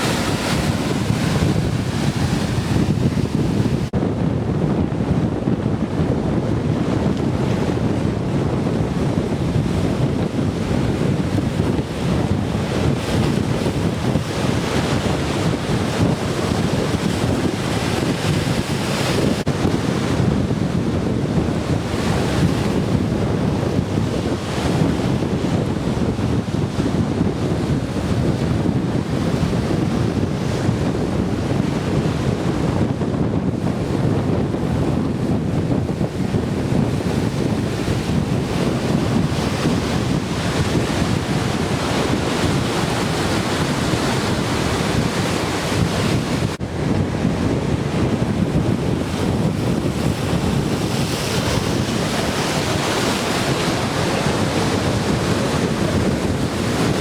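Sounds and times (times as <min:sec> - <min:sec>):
surf breaking on a beach: 0:00.0 - 0:57.0
wind buffeting microphone: 0:00.0 - 0:57.0.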